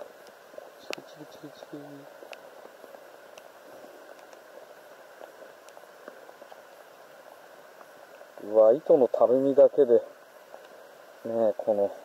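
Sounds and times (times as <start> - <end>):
light rain on water: 0.0 - 12.0.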